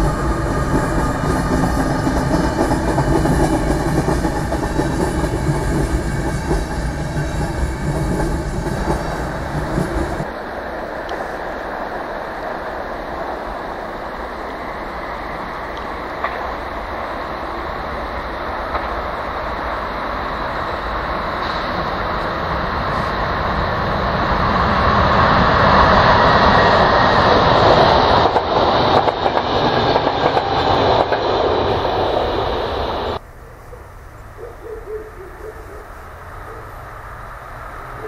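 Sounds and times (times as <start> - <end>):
passing train rumble: 0.0 - 38.0.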